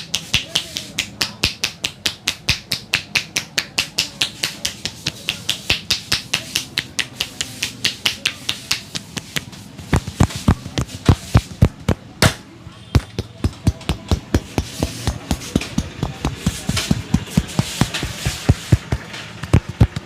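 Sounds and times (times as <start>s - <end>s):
hands slapping during massage: 0.0s - 12.4s, 13.0s - 20.0s.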